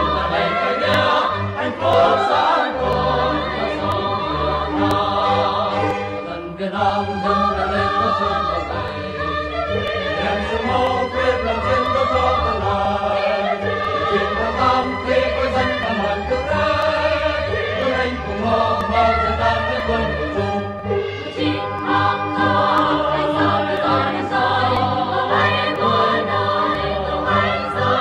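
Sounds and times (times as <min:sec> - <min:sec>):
mixed choir singing in harmony: 0:00.0 - 0:28.0.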